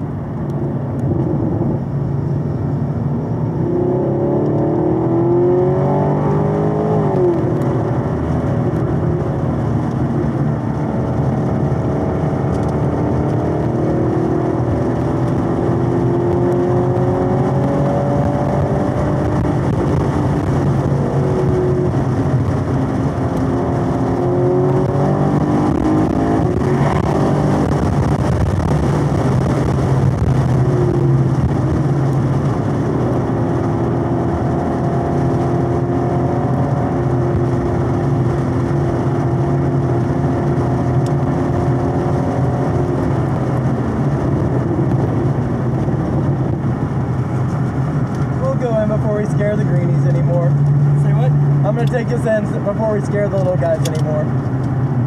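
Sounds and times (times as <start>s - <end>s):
car engine under hard throttle: 0.0s - 55.0s.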